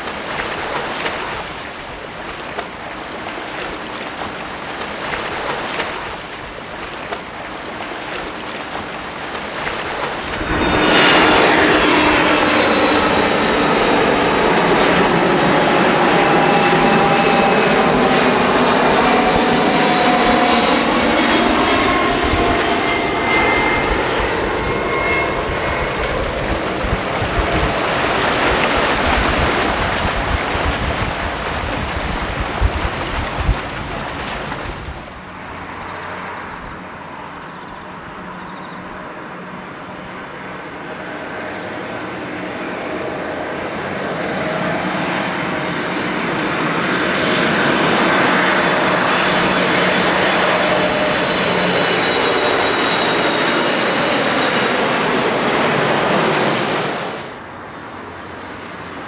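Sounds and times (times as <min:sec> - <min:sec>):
engine hum with high whine: 0:00.0 - 0:59.0
jet engine roar: 0:00.0 - 0:59.0
jet engine whine sliding down: 0:06.0 - 0:59.0.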